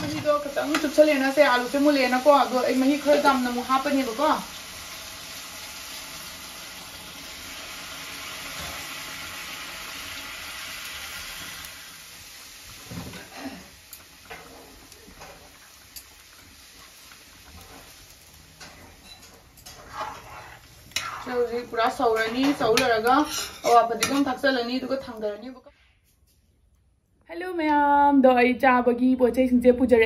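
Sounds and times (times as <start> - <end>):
water sizzling in hot oil: 0.0 - 25.4.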